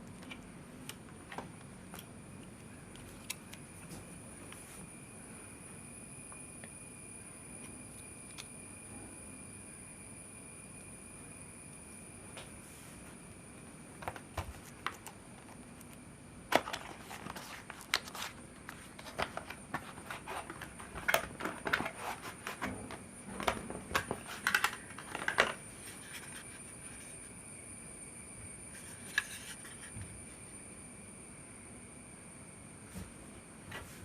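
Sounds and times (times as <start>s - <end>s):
faint high-pitched whine: 0.0s - 34.0s.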